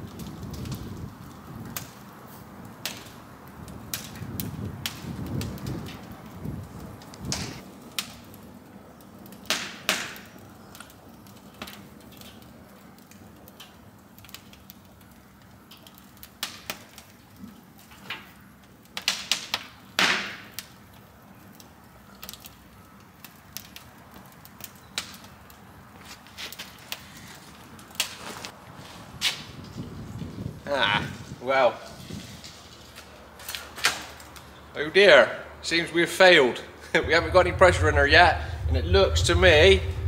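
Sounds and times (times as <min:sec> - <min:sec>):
fire crackling and popping: 0:00.0 - 0:35.8, 0:36.5 - 0:40.0.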